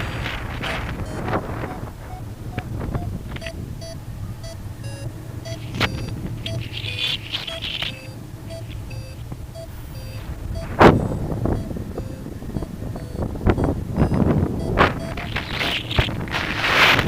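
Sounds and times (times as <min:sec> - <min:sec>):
wind rumble on microphone: 0:00.0 - 0:17.0
short electronic beeps: 0:00.1 - 0:16.3.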